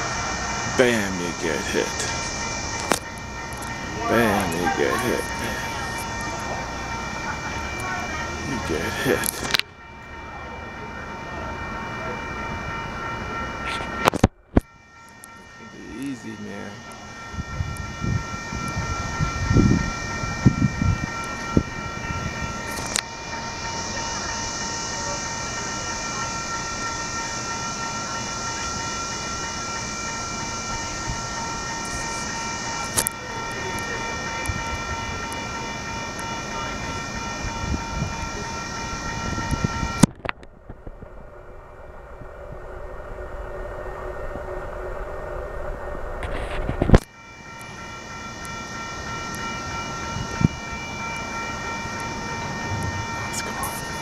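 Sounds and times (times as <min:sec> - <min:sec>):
high-pitched ringing tones: 0:00.0 - 0:54.0
train low rumble: 0:00.0 - 0:54.0.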